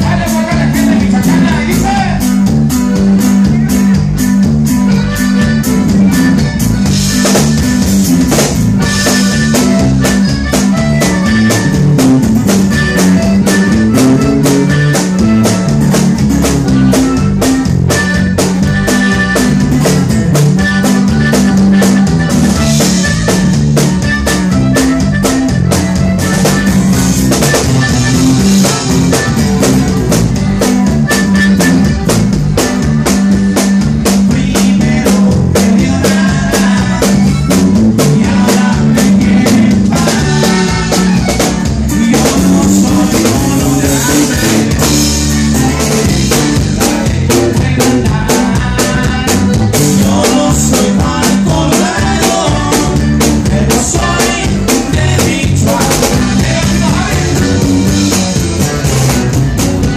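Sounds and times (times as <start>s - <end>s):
drum kit rimshots: 0.0s - 59.9s
loud live band music: 0.0s - 59.9s.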